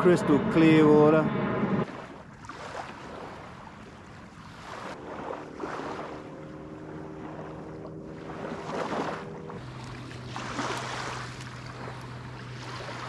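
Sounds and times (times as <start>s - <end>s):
distant engine hum: 0.0s - 13.0s
small waves lapping on shore: 1.8s - 13.0s.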